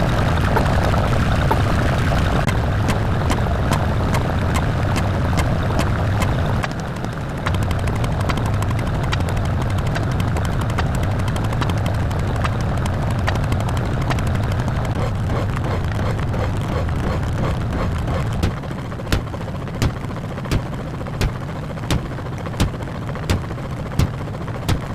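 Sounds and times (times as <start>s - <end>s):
mechanical drone with low hum: 0.0s - 24.9s.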